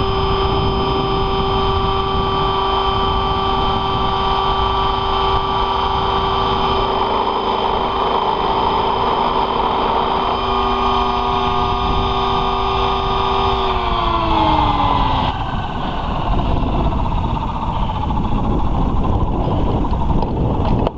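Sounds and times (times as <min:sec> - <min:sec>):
model helicopter motor whining: 0:00.0 - 0:20.9.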